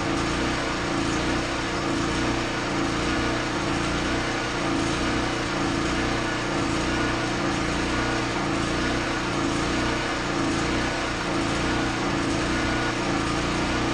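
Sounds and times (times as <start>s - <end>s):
small engine running: 0.0s - 13.9s.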